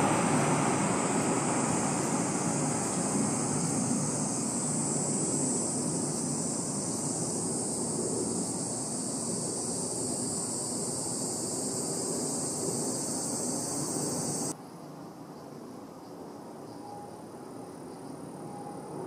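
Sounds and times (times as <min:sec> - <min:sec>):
high-pitched hiss: 0:00.0 - 0:18.5.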